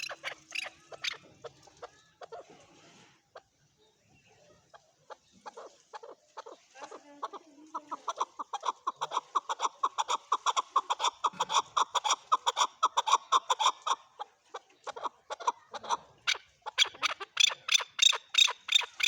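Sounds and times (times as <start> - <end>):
partridge clucking calls: 0.0 - 2.6, 4.6 - 19.0.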